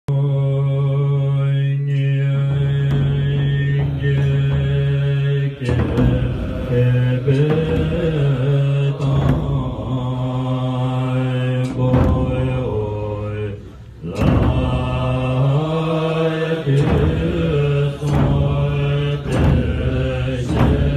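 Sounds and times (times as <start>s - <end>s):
monks chanting: 0.1s - 20.9s
sharp strikes: 1.9s - 20.9s.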